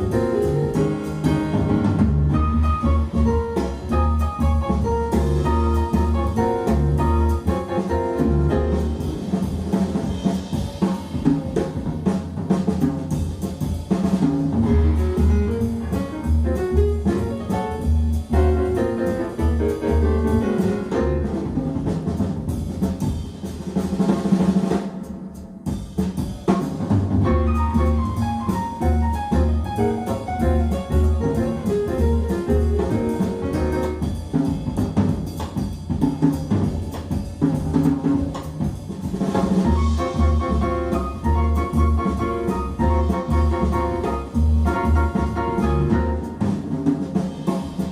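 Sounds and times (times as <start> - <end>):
jazz drum kit: 0.0 - 47.9
piano and bass figure: 0.0 - 47.9.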